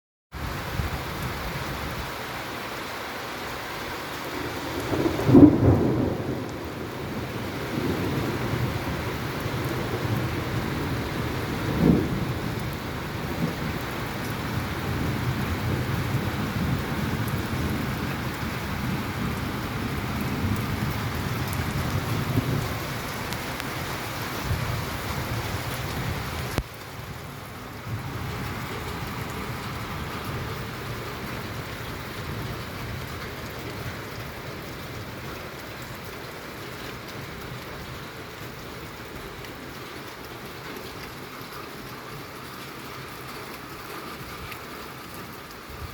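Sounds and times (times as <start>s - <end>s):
steady rain falling: 0.4s - 45.9s.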